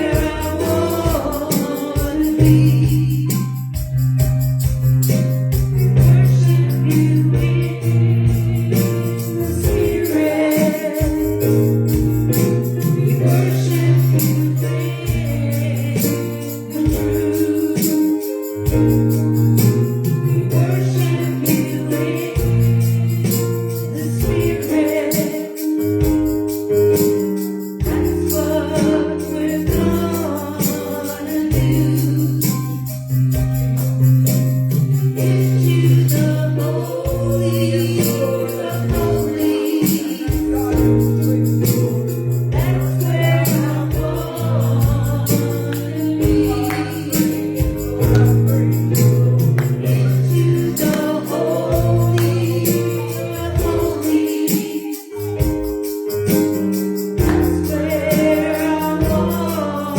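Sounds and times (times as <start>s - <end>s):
voices singing: 0.0s - 3.4s, 5.8s - 26.3s, 27.8s - 32.9s, 35.1s - 56.6s, 57.2s - 59.9s
band with held bass notes: 0.0s - 59.9s
tambourine shaking: 0.0s - 59.9s.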